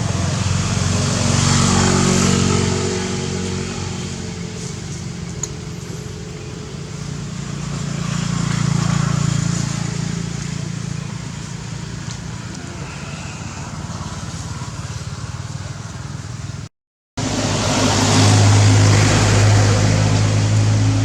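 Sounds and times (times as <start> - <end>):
vehicle engines passing by: 0.0 - 21.0.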